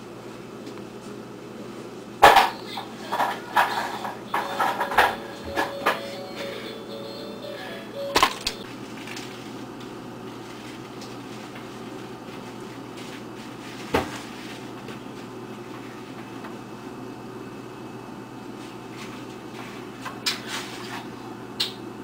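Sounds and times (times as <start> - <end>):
background hum and hiss: 0.0 - 22.0.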